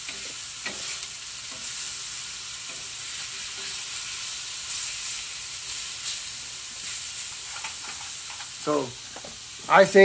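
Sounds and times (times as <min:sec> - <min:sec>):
steaks sizzling on griddle: 0:00.0 - 0:10.0.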